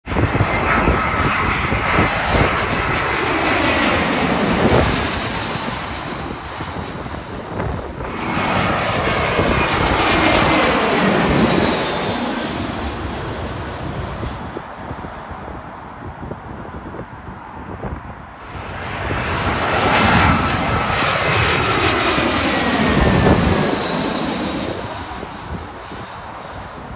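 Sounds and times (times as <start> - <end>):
jet airliner passing overhead: 0.1 - 26.9.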